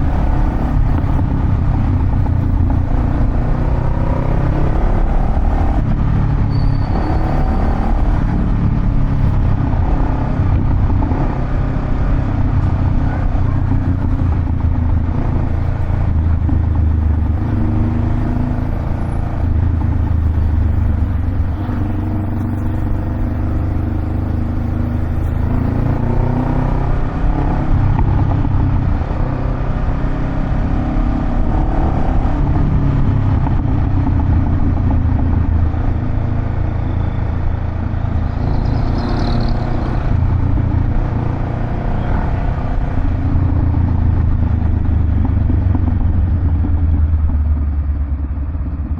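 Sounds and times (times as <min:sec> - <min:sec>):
motorcycle engine deep rumble: 0:00.0 - 0:48.9.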